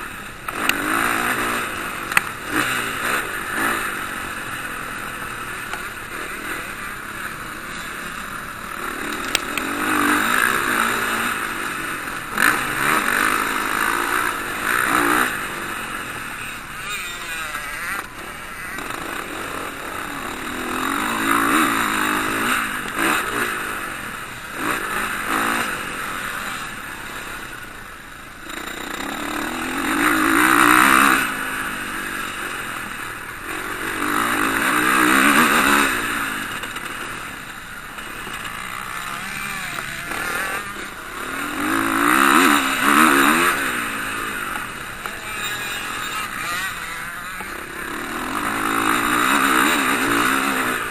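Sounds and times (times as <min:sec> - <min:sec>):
motocross bikes racing past: 0:00.0 - 0:50.9.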